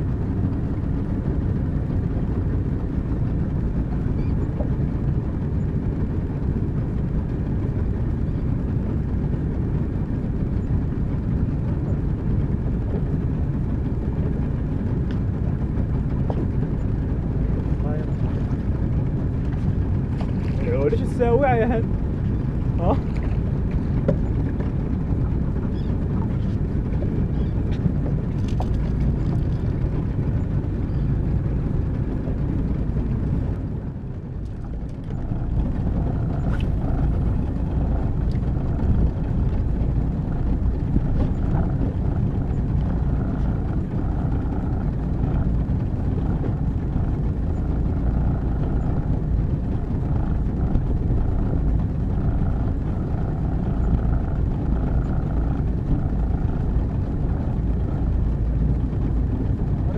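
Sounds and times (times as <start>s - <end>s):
boat motor: 0.0s - 59.9s
water noise: 0.0s - 59.9s
wind on microphone: 0.0s - 59.9s.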